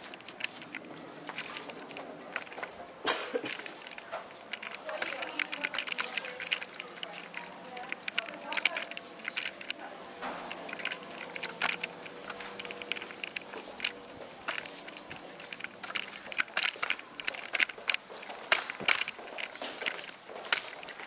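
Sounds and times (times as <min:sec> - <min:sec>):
camera handling crackling and clicks: 0:00.0 - 0:02.8, 0:03.4 - 0:09.8, 0:10.4 - 0:21.0
footsteps: 0:00.0 - 0:21.0.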